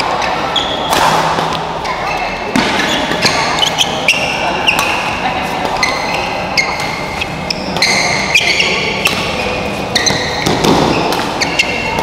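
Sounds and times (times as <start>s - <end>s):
rackets hitting shuttlecock: 0.0s - 12.0s
shoes squeaking on court floor: 0.0s - 12.0s.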